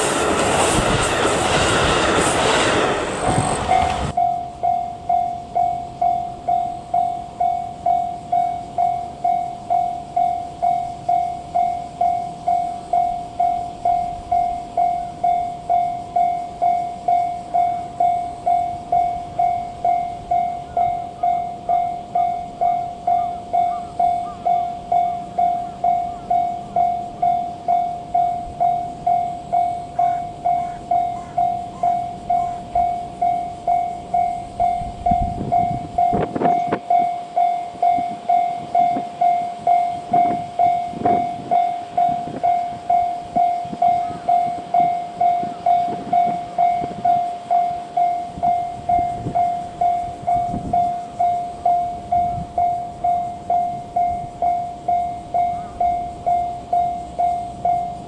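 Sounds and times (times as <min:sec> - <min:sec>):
level crossing warning bell: 0:00.0 - 0:58.0
low train rumble: 0:00.0 - 0:58.0.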